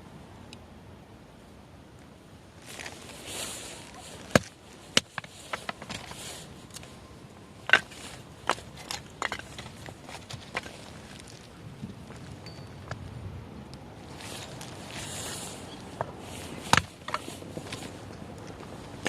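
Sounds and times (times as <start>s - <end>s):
rustle: 0.0s - 19.0s.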